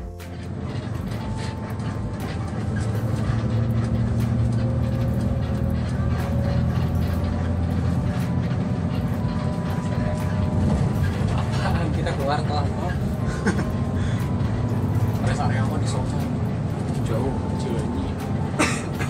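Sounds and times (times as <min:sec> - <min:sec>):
bus engine and tyres droning: 0:00.0 - 0:19.0.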